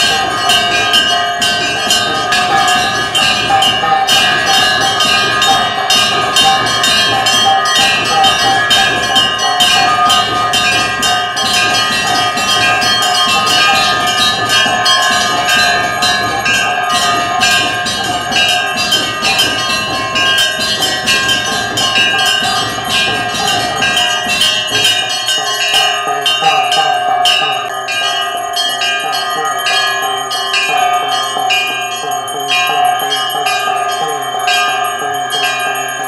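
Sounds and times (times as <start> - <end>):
hand bell ringing rapidly: 0.0 - 36.0.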